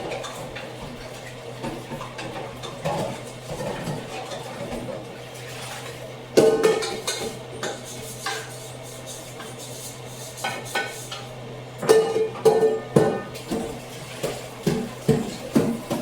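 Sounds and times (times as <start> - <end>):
dishes and pans clattering: 0.0 - 5.0, 6.4 - 9.8, 10.4 - 16.0.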